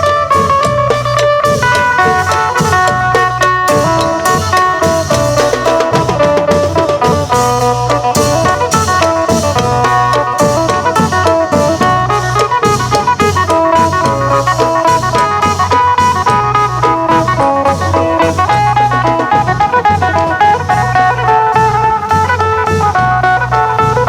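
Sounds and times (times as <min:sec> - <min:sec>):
long drums beating: 0:00.0 - 0:24.0
metallic cymbal strikes: 0:00.0 - 0:24.0
plucked lute melody: 0:00.0 - 0:24.0.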